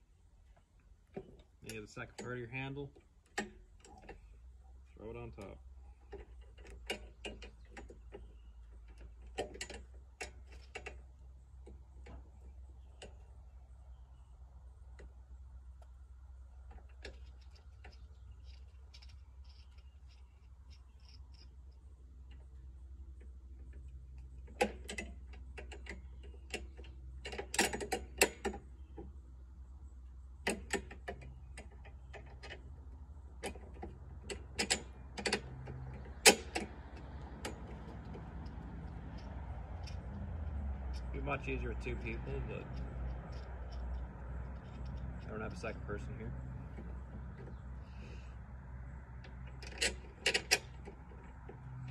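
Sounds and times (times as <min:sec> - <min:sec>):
clicks and knocks of handle parts: 0:00.5 - 0:04.5, 0:05.2 - 0:13.4, 0:14.9 - 0:29.2, 0:30.4 - 0:48.3, 0:48.9 - 0:51.9.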